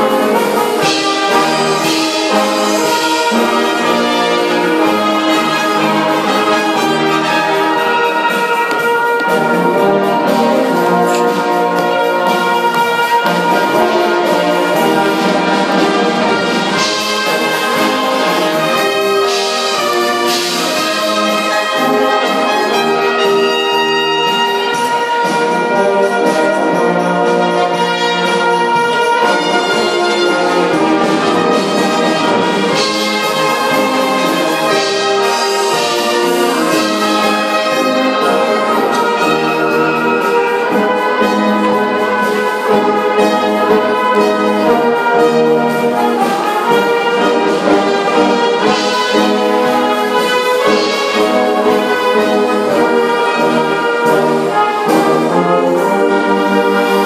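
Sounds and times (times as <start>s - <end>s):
brass band playing sustained chords: 0.0s - 57.0s.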